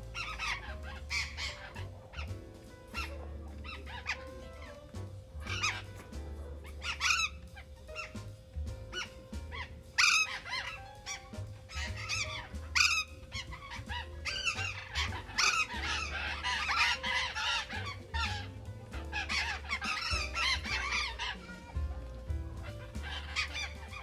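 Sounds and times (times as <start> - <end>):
parrots screeching: 0.0 - 24.0.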